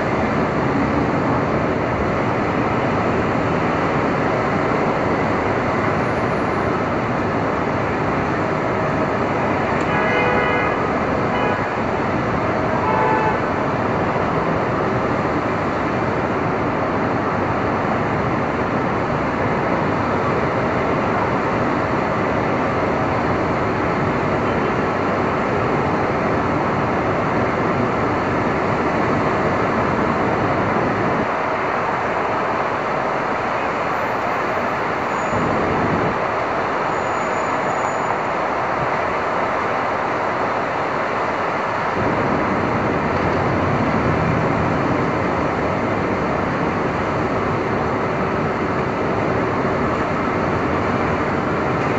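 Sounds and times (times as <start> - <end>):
dense street traffic noise: 0.0 - 51.9.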